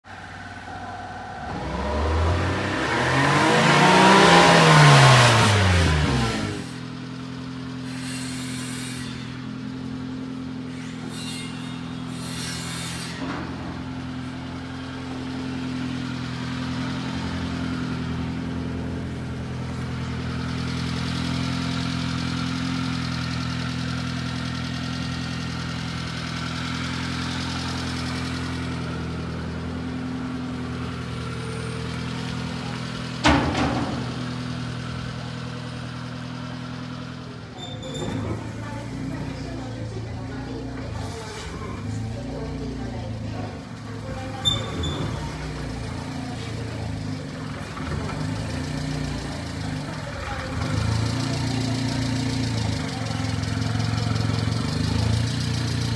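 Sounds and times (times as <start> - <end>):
truck engine revving and idling: 0.0 - 55.9.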